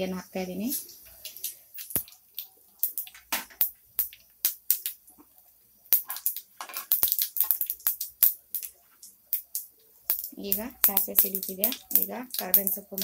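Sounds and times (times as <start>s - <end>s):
seeds crackling and popping in oil: 0.4s - 13.0s.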